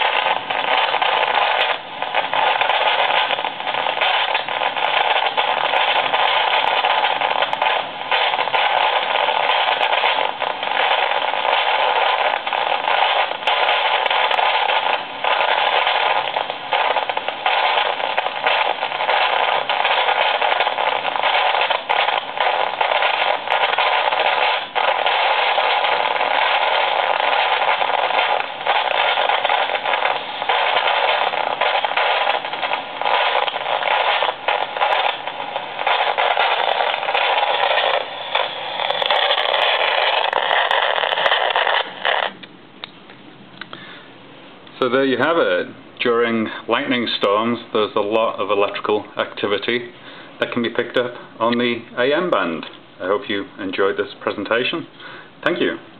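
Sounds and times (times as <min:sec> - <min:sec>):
radio static hiss: 0:00.0 - 0:42.5, 0:44.7 - 0:55.9
static crackles and pops: 0:00.0 - 0:55.9.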